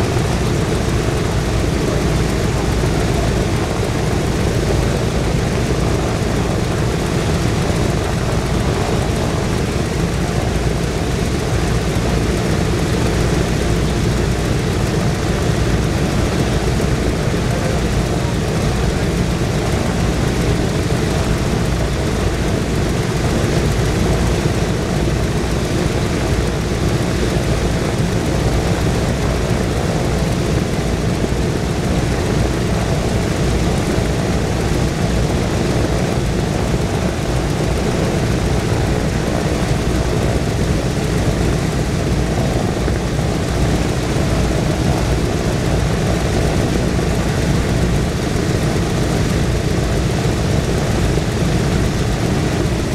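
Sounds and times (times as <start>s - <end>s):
radial aircraft engines idling: 0.0s - 52.9s.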